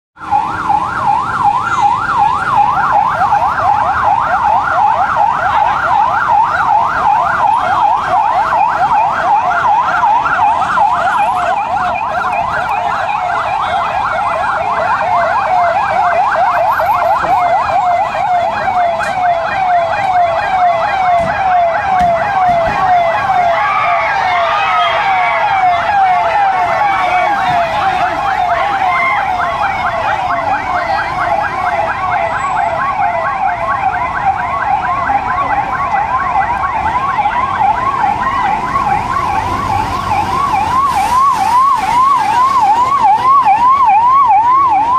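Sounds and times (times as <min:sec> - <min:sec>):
siren on fast yelp: 0:00.2 - 0:44.9.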